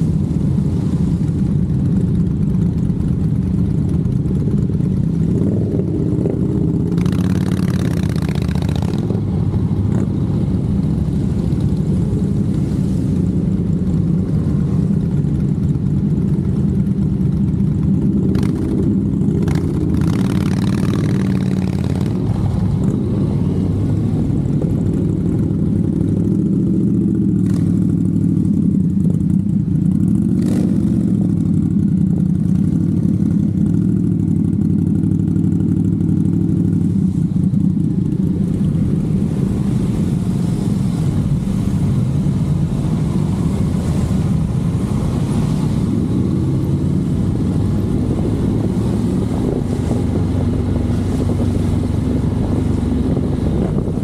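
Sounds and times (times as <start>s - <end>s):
motorcycle engine running: 0.0s - 54.0s
other motorcycles riding nearby: 0.0s - 54.0s.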